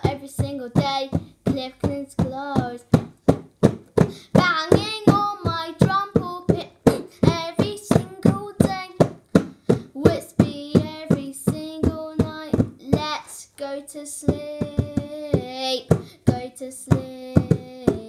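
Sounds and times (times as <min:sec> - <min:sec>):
boy singing: 0:00.0 - 0:03.1, 0:04.0 - 0:09.2, 0:09.8 - 0:18.0
bongo drums struck by hand: 0:00.0 - 0:13.1, 0:14.3 - 0:18.0.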